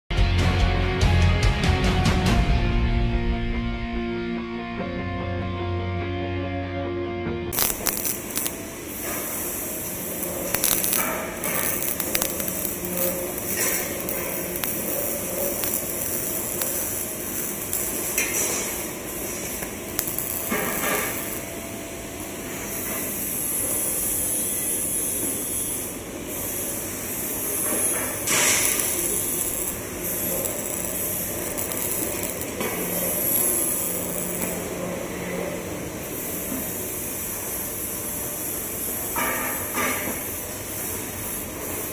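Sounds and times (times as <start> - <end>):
machinery hiss and hum: 7.5 - 41.9.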